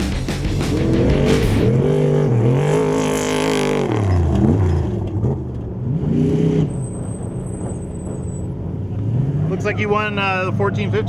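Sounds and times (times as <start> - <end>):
vehicle engine revving hard: 0.0 - 11.0.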